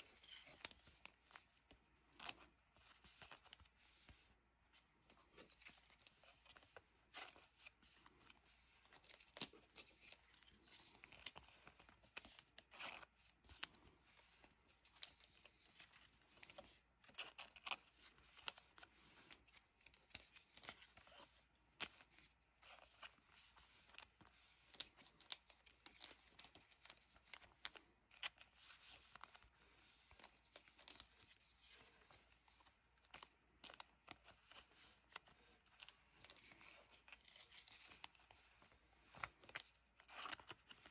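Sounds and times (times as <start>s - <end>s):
plastic sleeves crinkling: 0.0s - 40.9s.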